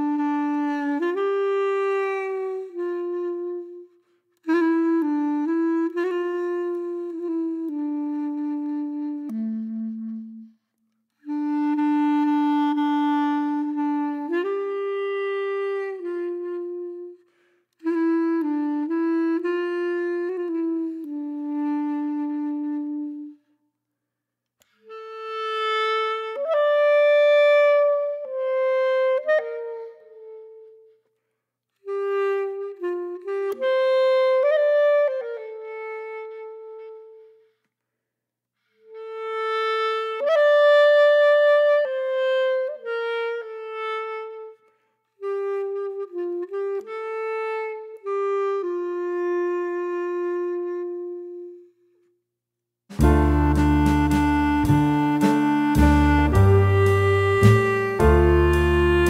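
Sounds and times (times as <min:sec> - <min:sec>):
slow solo woodwind melody: 0:00.0 - 0:23.6, 0:24.6 - 0:31.2, 0:31.8 - 0:37.6, 0:38.6 - 0:52.2, 0:52.9 - 0:59.0.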